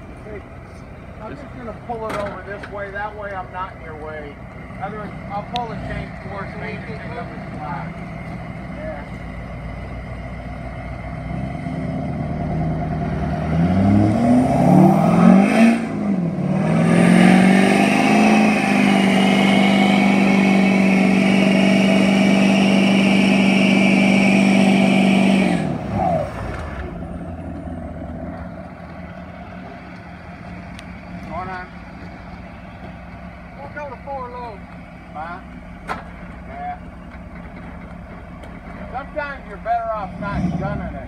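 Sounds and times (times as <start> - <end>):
truck engine revving under load: 0.0 - 41.0.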